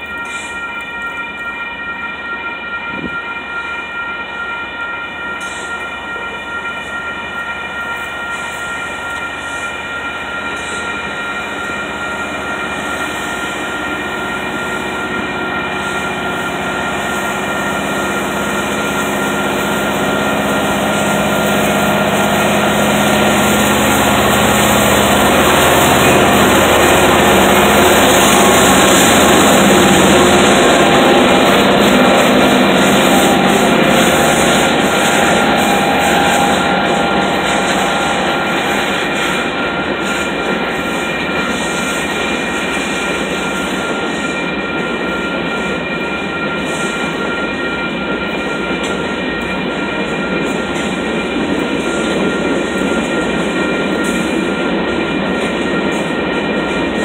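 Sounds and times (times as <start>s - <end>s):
railroad crossing bell ringing: 0.0s - 57.0s
train cars rolling: 0.0s - 57.0s
locomotive engine rumble: 7.9s - 57.0s.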